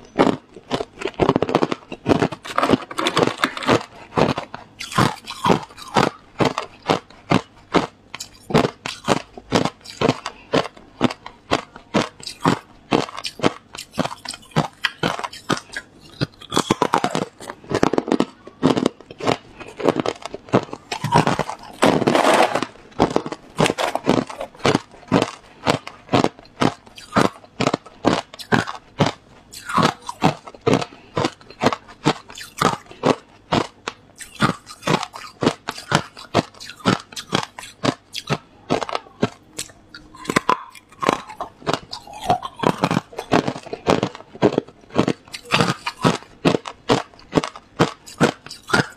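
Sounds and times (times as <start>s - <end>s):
ice crunching between teeth: 0.0s - 48.9s.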